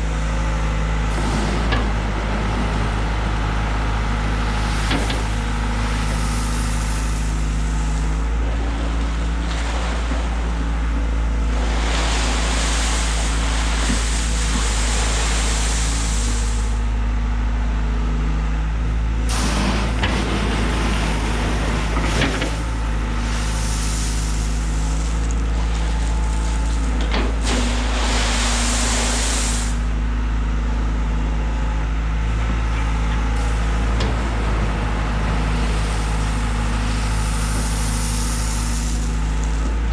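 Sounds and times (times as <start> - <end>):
earth-moving machine engine running: 0.0 - 39.9.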